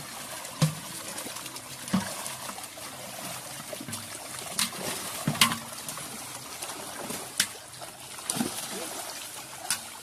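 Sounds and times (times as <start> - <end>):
water churning and splashing: 0.0 - 10.0.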